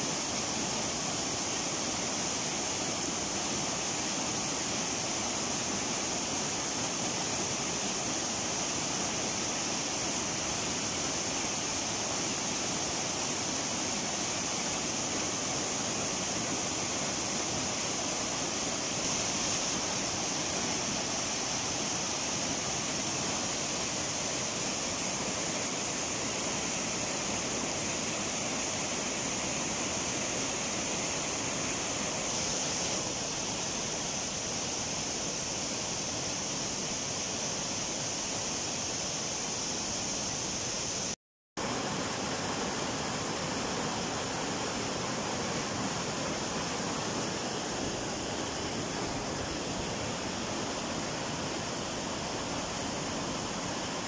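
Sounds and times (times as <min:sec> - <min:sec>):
white water rushing over boulders: 0:00.0 - 0:54.0.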